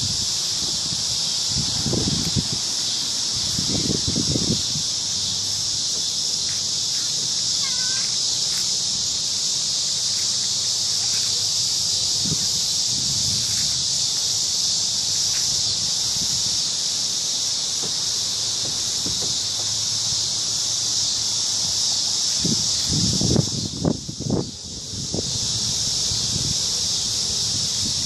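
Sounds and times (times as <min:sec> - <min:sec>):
crickets singing: 0:00.0 - 0:28.0.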